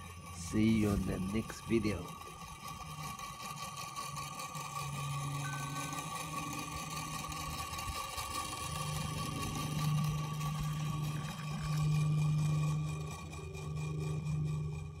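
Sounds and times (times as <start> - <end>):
toy windmill motor whirring: 0.0 - 15.0.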